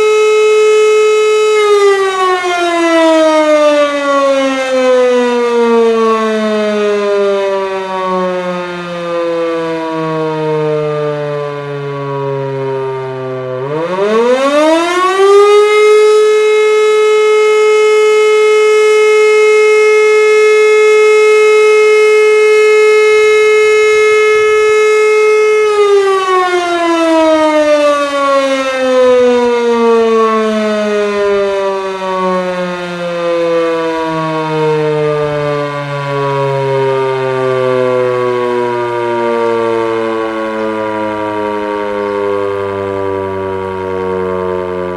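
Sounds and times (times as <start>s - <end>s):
electromechanical siren wailing: 0.0s - 44.9s.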